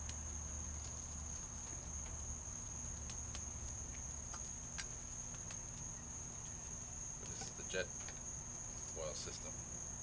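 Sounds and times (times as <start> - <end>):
insect trilling: 0.0 - 10.0
wood crackling in stove: 0.0 - 10.0.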